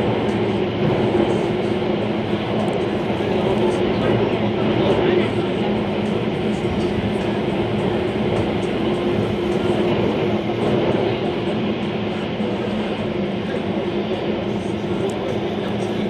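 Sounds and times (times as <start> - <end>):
constant low hum: 0.0 - 16.0
metro train rumbling: 0.0 - 16.0.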